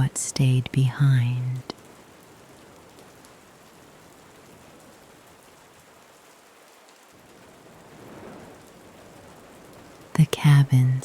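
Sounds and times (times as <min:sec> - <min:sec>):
rain drop ticks: 0:00.0 - 0:11.0
soft rain hiss: 0:00.0 - 0:11.0.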